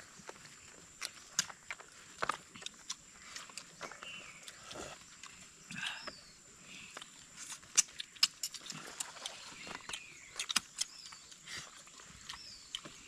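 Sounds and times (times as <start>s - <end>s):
lip-smacking and chewing: 0.2s - 6.1s, 6.8s - 13.0s.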